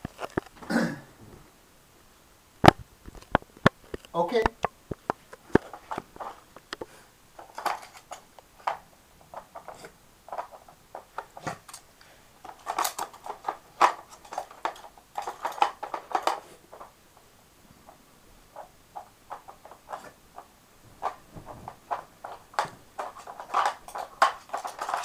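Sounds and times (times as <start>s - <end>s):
plastic puzzle feeder clattering: 3.1s - 17.0s, 17.9s - 25.0s.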